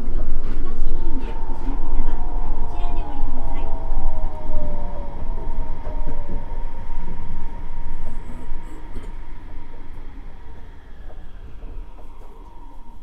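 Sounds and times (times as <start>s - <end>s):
train motor whine: 0.0s - 13.0s
train running noise: 0.0s - 13.0s.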